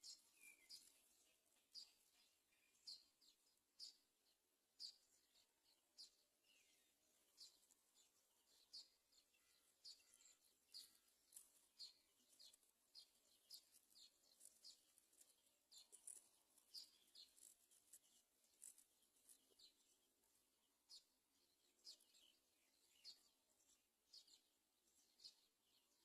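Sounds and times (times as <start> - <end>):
faint high bird chirps: 0.0 - 26.0.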